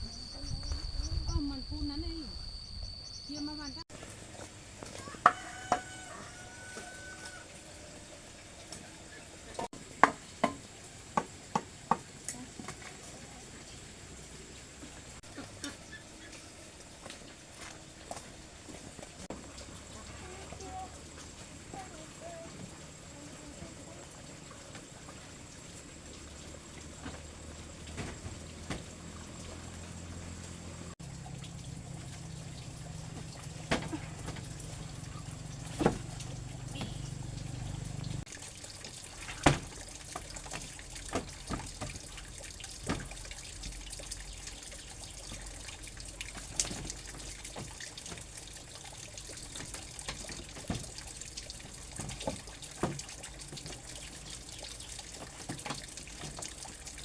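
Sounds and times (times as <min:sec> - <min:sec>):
water trickling: 0:03.1 - 0:57.0.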